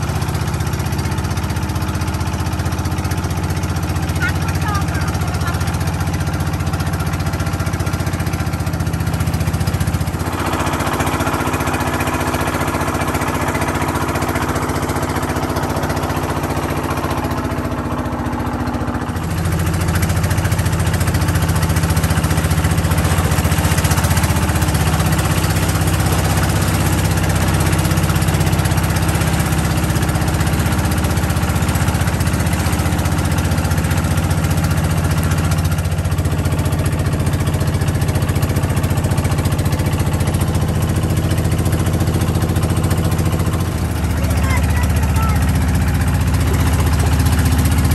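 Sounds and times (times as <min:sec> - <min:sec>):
motorboat engine droning: 0:00.0 - 0:47.9.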